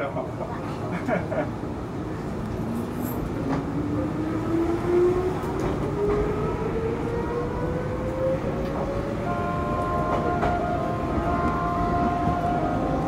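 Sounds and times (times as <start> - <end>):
train car rumble: 0.0 - 13.0.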